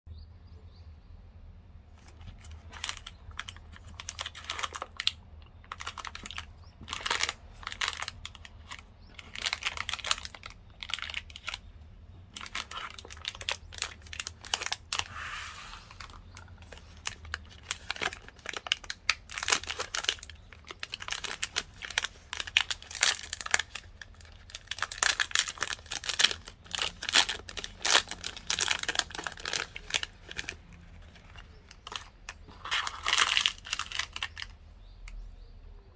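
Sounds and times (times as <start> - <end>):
wrappers crinkling and tearing: 2.0 - 34.6.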